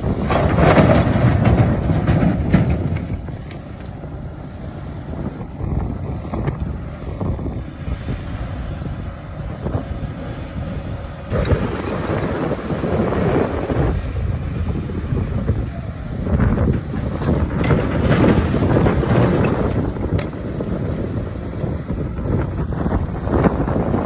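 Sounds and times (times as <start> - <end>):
excavator diesel engine under load: 0.0 - 24.0
wind buffeting microphone: 0.0 - 24.0.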